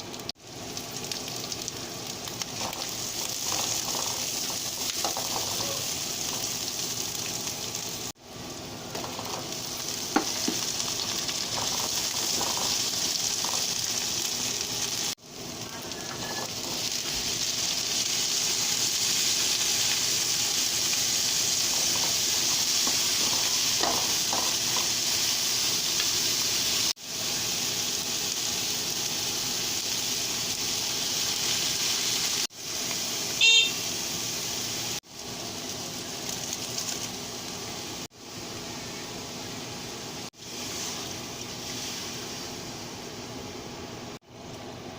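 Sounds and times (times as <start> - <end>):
food sizzling in a frying pan: 0.0 - 43.7.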